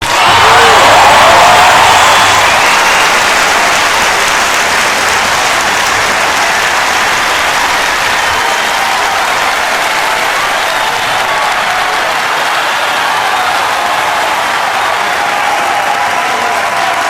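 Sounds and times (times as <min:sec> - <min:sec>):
crowd applauding: 0:00.0 - 0:17.0
crowd shouting and cheering: 0:00.0 - 0:17.0.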